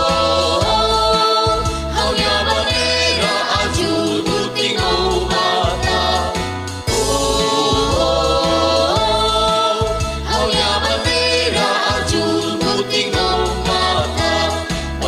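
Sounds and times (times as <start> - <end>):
band with pulsing bass: 0.0 - 15.0
choir singing: 0.0 - 15.0.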